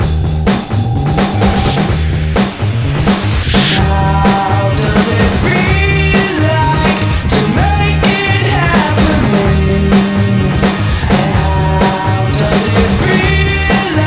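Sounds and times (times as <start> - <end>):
background music with drum beat: 0.0 - 14.0.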